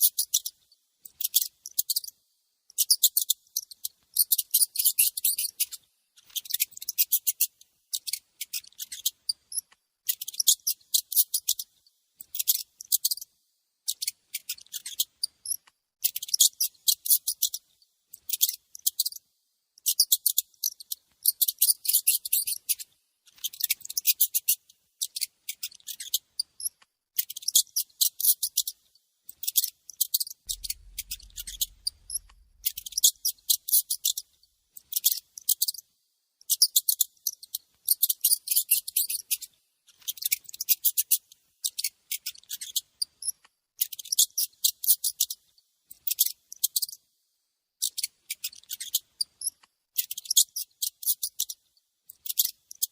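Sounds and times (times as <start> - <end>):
mouse squeaking: 0.0 - 13.3, 13.9 - 19.2, 19.8 - 35.8, 36.5 - 47.0, 47.8 - 52.9.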